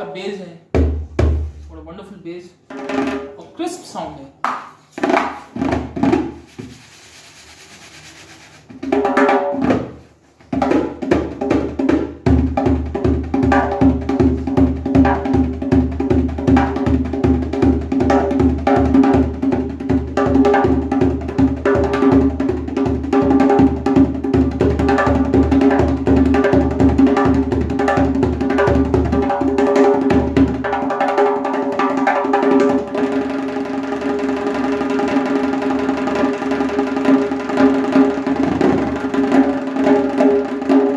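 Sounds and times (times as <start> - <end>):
djembe played by hand: 0.8 - 1.6, 2.7 - 3.4, 4.4 - 6.9, 7.8 - 40.9.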